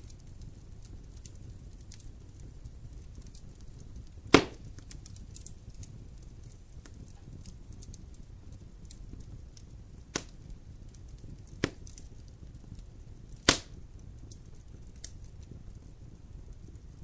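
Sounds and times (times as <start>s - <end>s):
fire popping: 0.0s - 17.0s
low rumble of flames: 0.0s - 17.0s
wood fire crackling: 0.0s - 17.0s.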